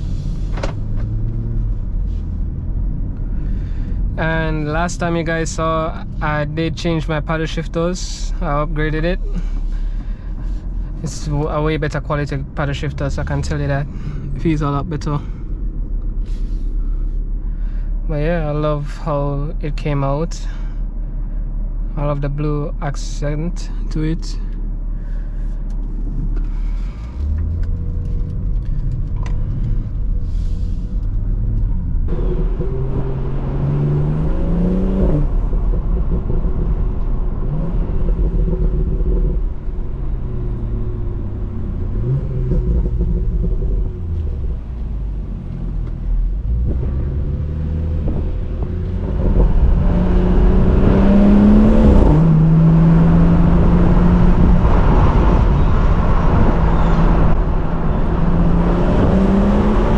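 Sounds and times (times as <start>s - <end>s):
car engine accelerating: 0.0s - 18.6s, 23.6s - 59.9s
road noise: 0.0s - 59.9s.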